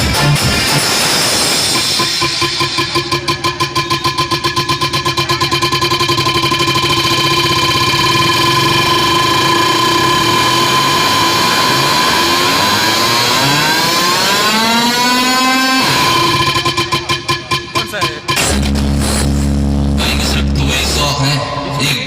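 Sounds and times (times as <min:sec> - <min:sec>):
buzzing electronic drone: 0:00.0 - 0:22.0.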